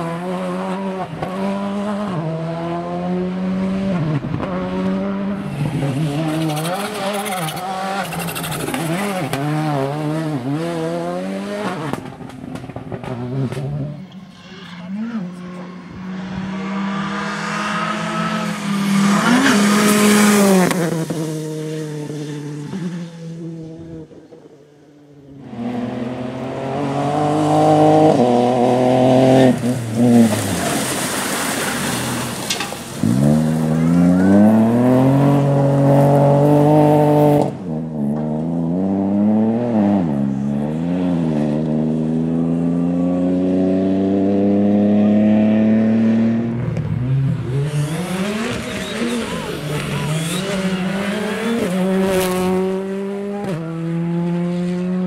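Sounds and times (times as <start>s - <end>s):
rally car engines revving past: 0.0s - 55.0s.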